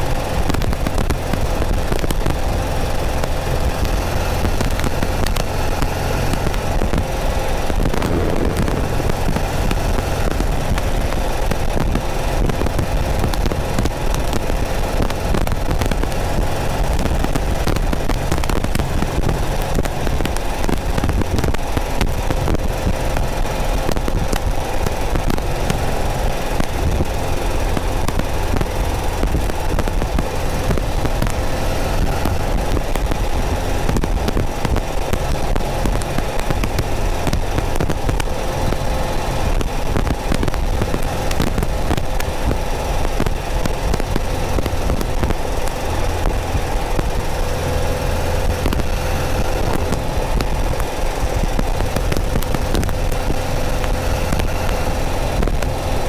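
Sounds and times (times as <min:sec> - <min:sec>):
car engine running steadily: 0:00.0 - 0:56.0
crackling static on microphone: 0:00.0 - 0:56.0
wind noise: 0:00.0 - 0:56.0.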